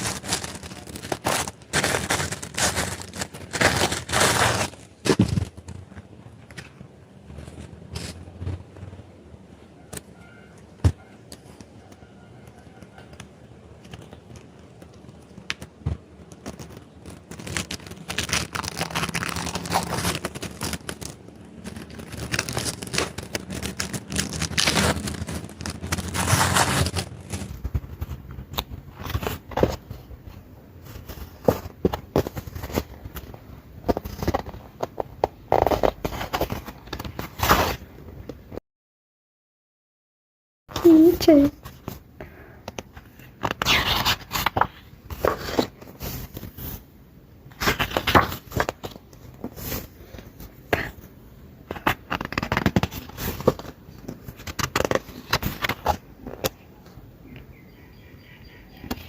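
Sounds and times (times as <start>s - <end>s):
plastic wrap crinkling and tearing: 0.0s - 6.7s, 13.1s - 37.9s, 40.8s - 56.6s.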